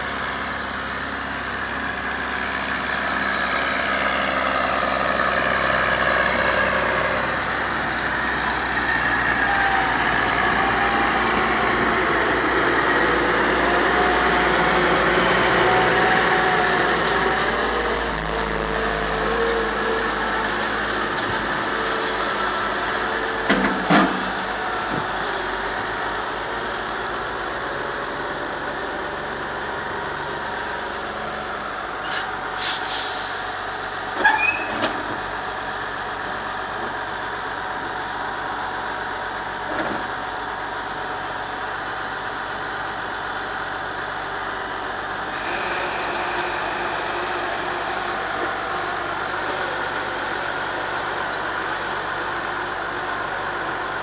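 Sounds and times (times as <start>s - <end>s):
second tractor working: 0.0s - 54.0s
tractor engine under load: 0.0s - 54.0s.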